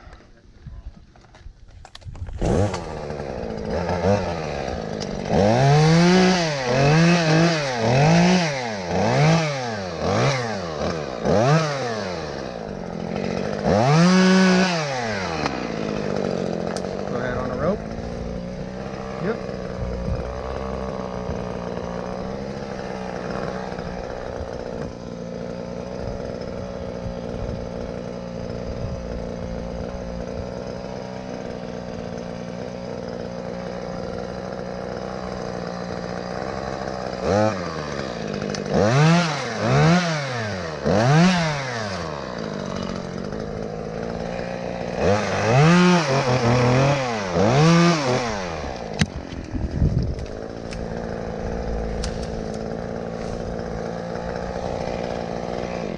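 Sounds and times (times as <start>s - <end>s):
chainsaw engine idling and revving: 0.0s - 55.9s.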